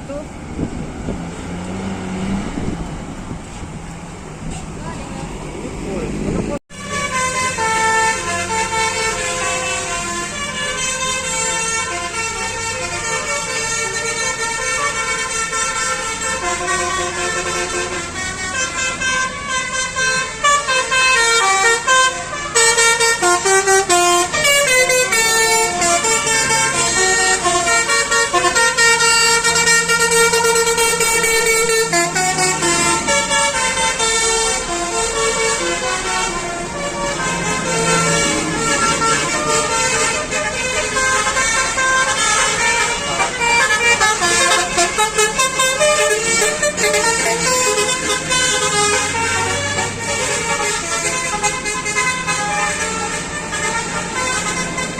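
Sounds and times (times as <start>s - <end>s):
bus engines running: 0.0s - 54.9s
bus horns playing tunes: 6.1s - 54.9s.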